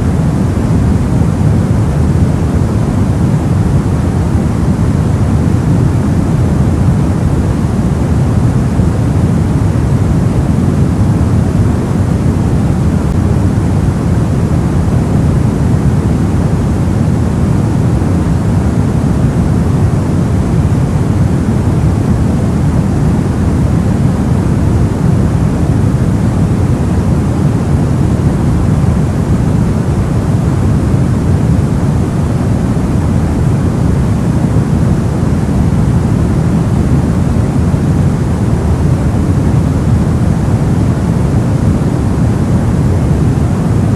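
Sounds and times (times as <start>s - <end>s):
deep white noise: 0.0s - 43.9s.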